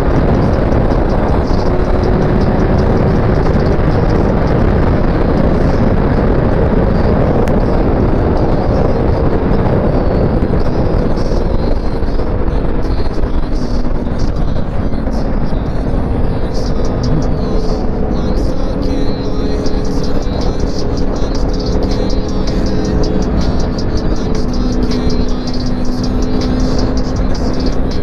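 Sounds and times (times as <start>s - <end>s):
motorcycle engine running: 0.0s - 28.0s
wind rush on microphone: 0.0s - 28.0s.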